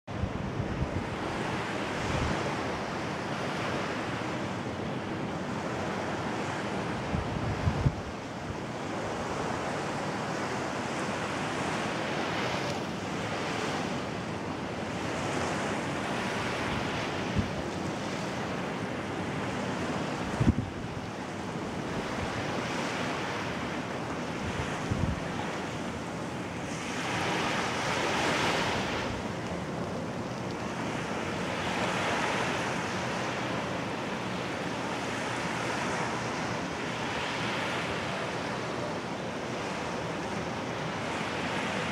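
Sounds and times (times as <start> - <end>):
sea surf: 0.1 - 41.9
wind blowing across microphone: 0.1 - 41.9.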